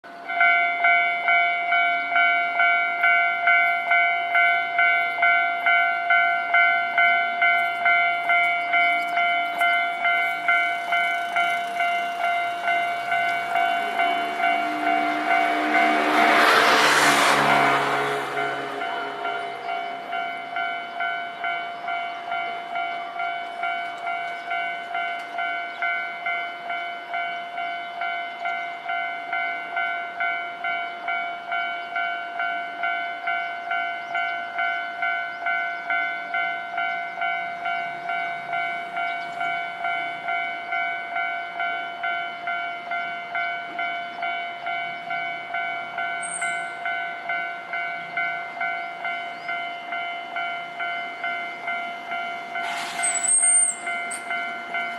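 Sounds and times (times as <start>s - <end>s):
level-crossing warning bell: 0.0s - 54.9s.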